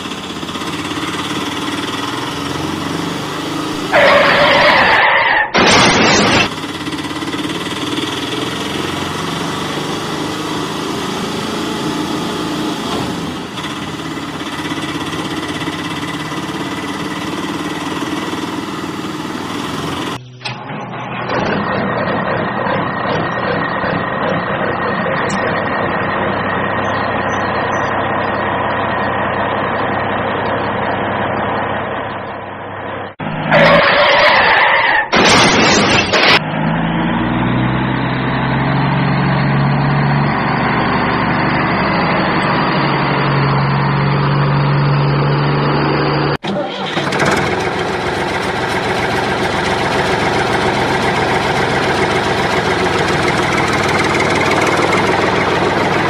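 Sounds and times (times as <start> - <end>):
vehicle engine sound effect: 0.0 - 56.0.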